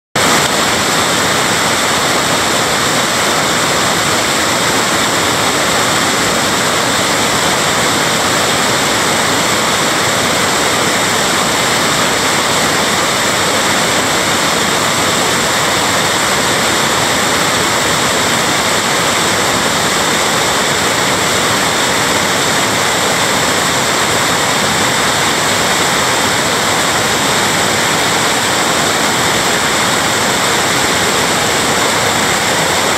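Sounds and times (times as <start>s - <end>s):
creek water rushing over rocks: 0.2s - 32.9s.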